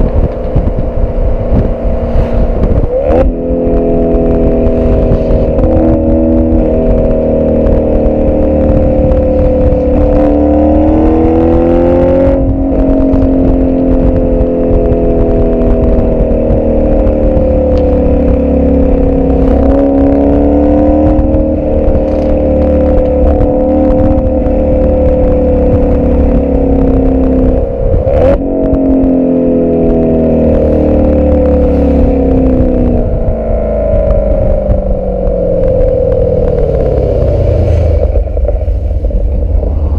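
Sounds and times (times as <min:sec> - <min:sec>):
car engine exhaust: 0:00.0 - 0:39.9.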